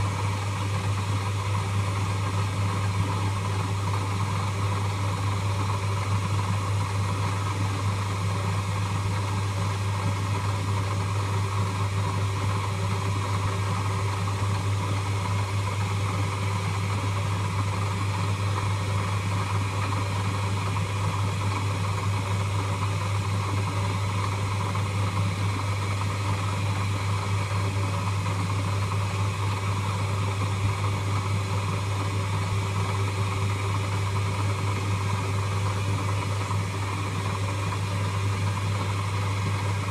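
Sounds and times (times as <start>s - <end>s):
lathe running: 0.0s - 39.9s.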